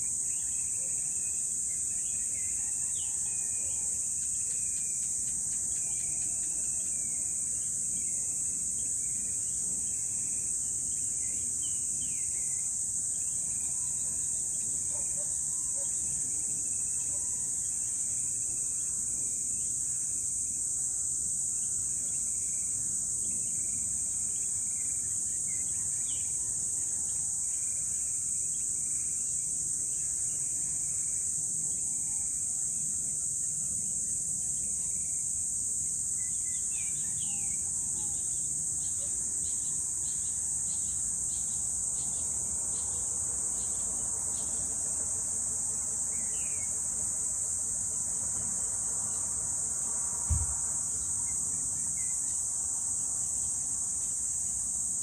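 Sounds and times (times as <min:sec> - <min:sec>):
high-pitched insect chorus trilling: 0:00.0 - 0:55.0.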